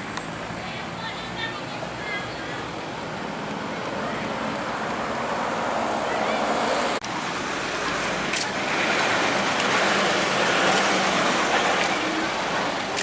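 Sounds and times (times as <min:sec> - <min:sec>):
motor vehicle passing: 0:00.0 - 0:13.0.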